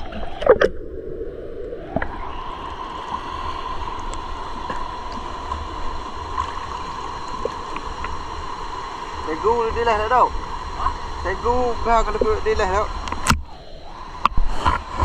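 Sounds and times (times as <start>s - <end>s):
river water gurgling: 0.0s - 15.0s.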